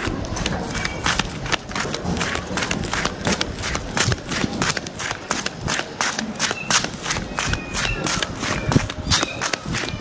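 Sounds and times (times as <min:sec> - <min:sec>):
quick footsteps on concrete: 0:00.0 - 0:10.0.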